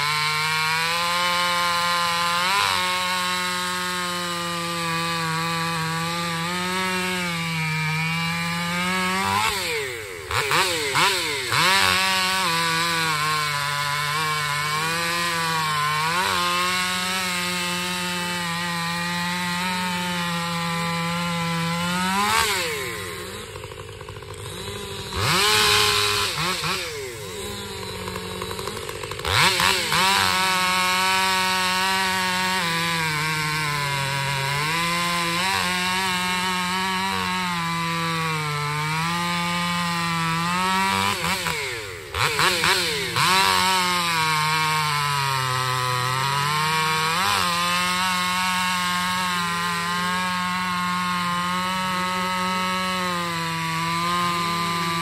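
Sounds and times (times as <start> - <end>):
chainsaw cutting log: 0.0 - 55.0
chainsaw revving: 0.0 - 55.0.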